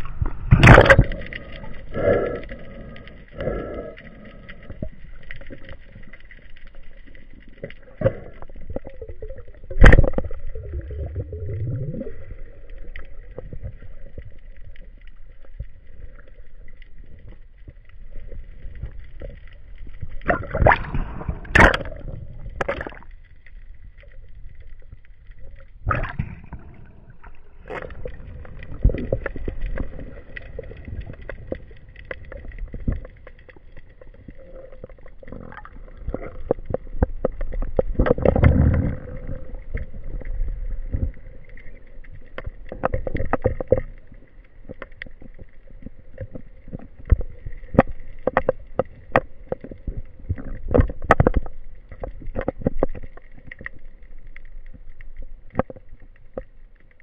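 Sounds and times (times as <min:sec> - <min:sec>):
underwater gurgling water: 0:00.0 - 0:57.0.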